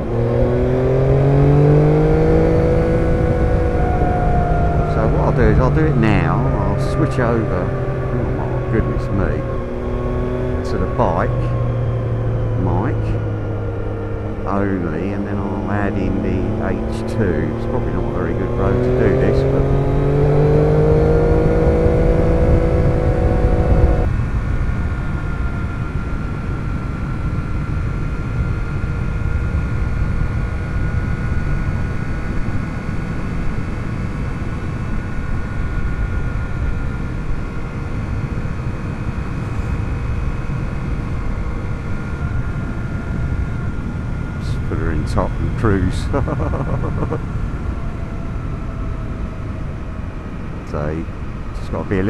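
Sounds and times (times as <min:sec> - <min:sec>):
motorcycle engine accelerating: 0:00.0 - 0:52.0
road and wind noise: 0:00.0 - 0:52.0.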